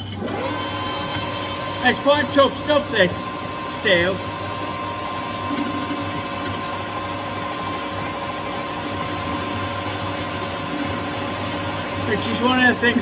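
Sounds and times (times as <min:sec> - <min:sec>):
metal lathe whining: 0:00.0 - 0:13.0.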